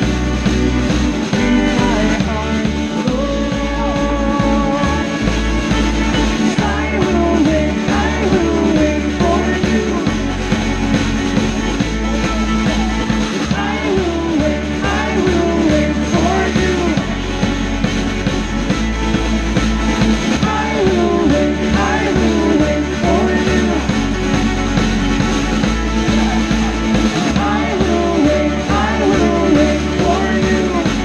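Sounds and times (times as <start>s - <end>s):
band playing folk-rock song: 0.0s - 31.0s.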